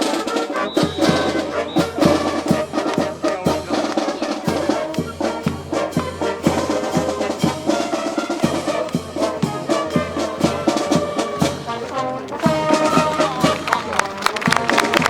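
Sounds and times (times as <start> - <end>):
brass band playing march: 0.0 - 15.0
steady drum beat: 0.0 - 15.0.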